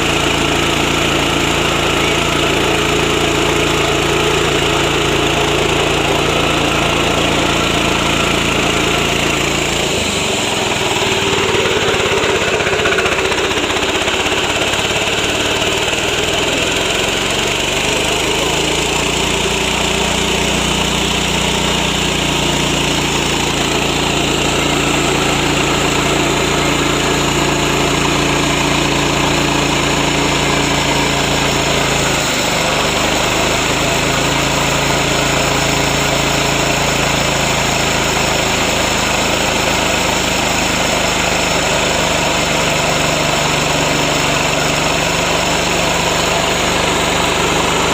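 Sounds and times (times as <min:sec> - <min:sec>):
rice mill engine droning: 0:00.0 - 0:47.9.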